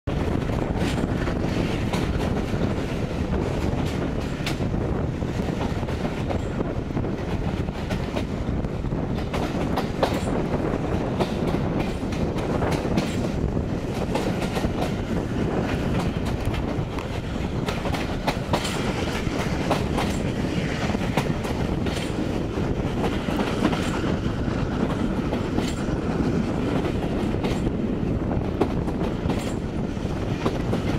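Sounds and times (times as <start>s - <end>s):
train running noise: 0.0s - 30.9s
wheels clicking over rail joints: 5.4s - 30.9s.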